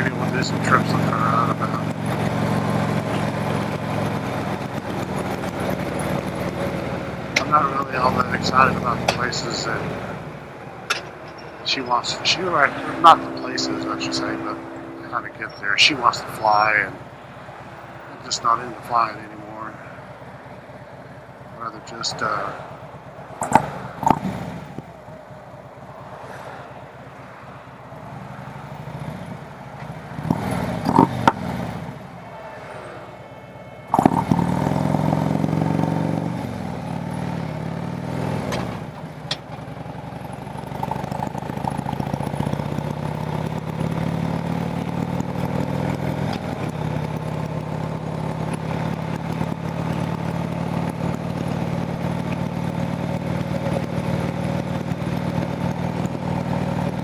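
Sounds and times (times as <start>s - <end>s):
engine knocks: 0.0s - 19.2s, 20.0s - 26.1s, 27.9s - 32.1s, 33.9s - 57.0s
motorcycle engine revving: 0.0s - 26.2s, 27.3s - 32.2s, 33.8s - 57.0s.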